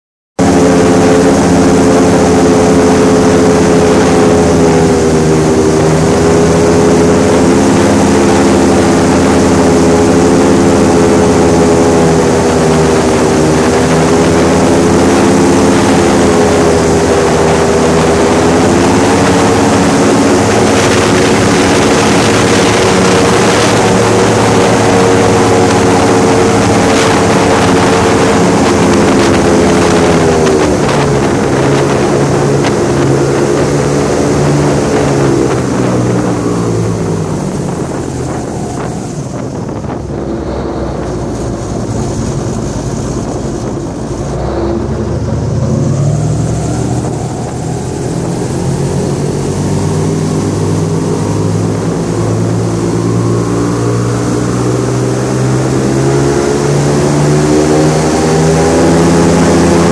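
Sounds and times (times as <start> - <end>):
airboat engine and propeller: 0.4 - 59.9.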